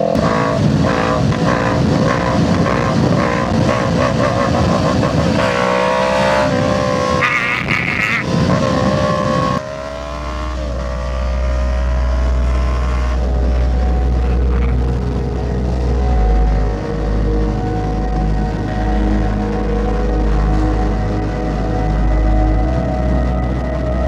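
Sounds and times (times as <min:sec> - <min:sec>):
deep wind rumble: 0:00.0 - 0:24.0
motorcycle engine accelerating: 0:00.0 - 0:24.0.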